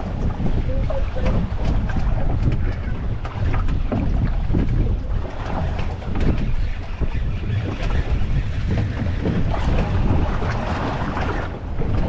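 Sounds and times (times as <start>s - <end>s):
waves washing: 0.0s - 12.0s
wind buffeting microphone: 0.0s - 12.0s.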